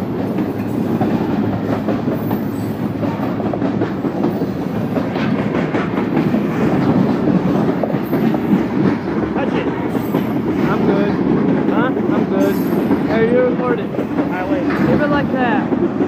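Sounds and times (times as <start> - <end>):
freight train rumbling: 0.0 - 16.0
wheels clacking over rails: 0.0 - 16.0.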